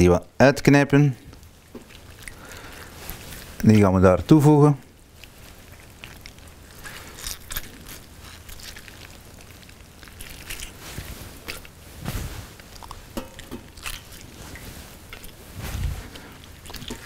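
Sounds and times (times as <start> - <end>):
wet handling sounds: 1.3 - 17.0.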